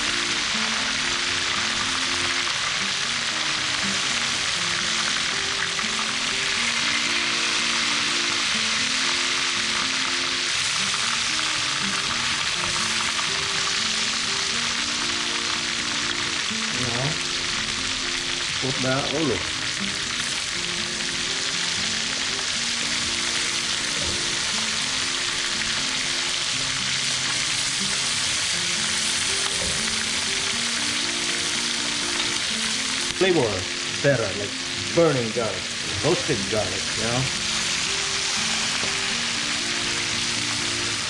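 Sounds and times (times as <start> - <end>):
food sizzling in hot oil: 0.0 - 41.0.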